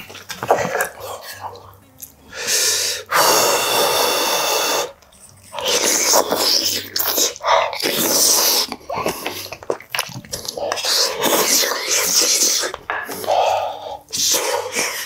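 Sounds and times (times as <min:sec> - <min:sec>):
person slurping soup: 0:00.0 - 0:15.0.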